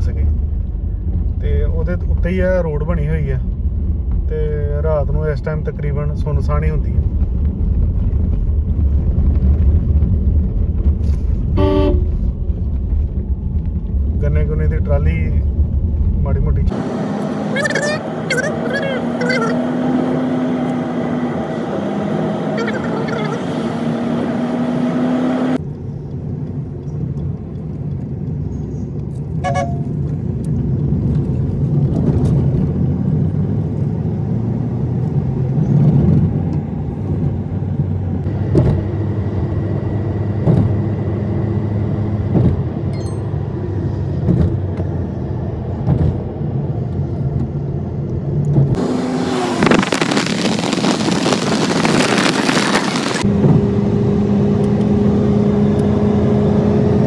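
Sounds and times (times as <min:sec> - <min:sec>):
car engine and road hum: 0:00.0 - 0:57.0.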